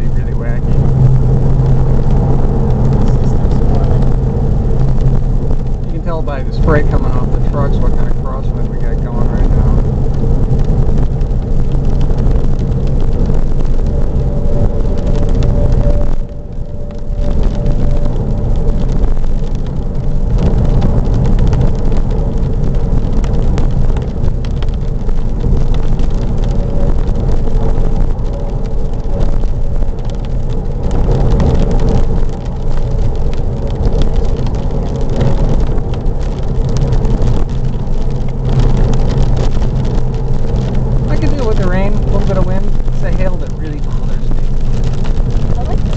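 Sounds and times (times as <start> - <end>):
car engine drone: 0.0 - 45.9
rain ticking on car: 0.0 - 45.9
road and wind roar: 0.0 - 45.9.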